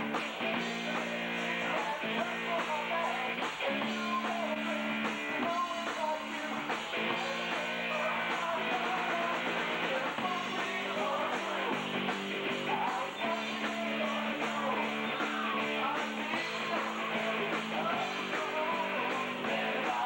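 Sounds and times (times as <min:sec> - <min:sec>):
guitar chords: 0:00.0 - 0:20.0
rock band playing: 0:00.0 - 0:20.0.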